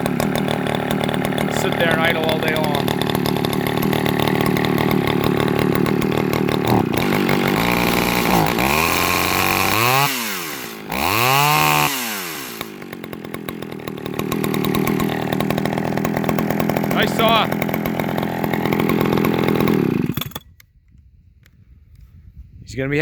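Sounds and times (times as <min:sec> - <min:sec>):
chainsaw engine idling and revving: 0:00.0 - 0:20.6.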